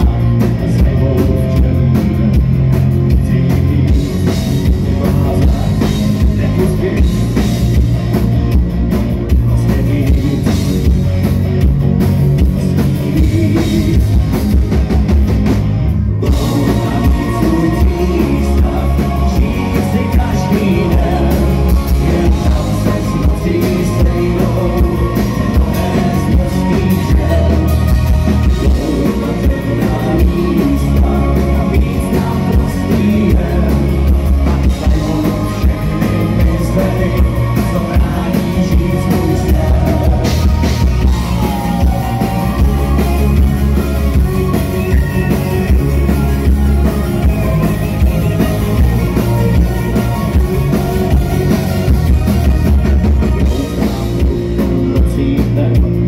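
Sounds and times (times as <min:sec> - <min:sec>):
lead vocalist singing: 0:00.0 - 0:08.5, 0:09.2 - 0:14.7, 0:16.0 - 0:56.0
bass guitar: 0:00.0 - 0:56.0
drum kit: 0:00.0 - 0:56.0
keyboards: 0:00.0 - 0:56.0.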